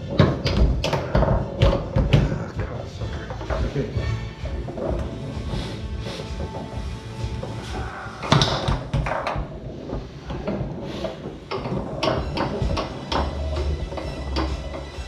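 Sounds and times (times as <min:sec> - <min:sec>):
foosball clacks: 0:00.0 - 0:03.8, 0:06.3 - 0:15.0
foosball rods sliding and banging: 0:00.0 - 0:15.0.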